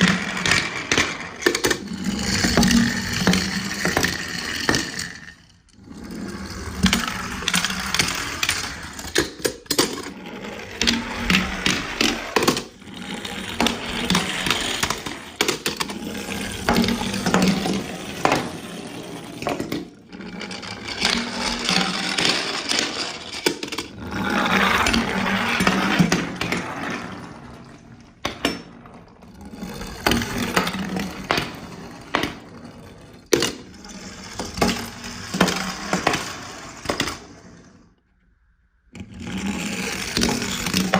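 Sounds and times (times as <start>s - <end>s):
toy cars clicking and clattering: 0.0s - 37.8s, 39.0s - 40.9s
toy cars rattling down a slide: 0.0s - 37.9s, 39.0s - 40.9s.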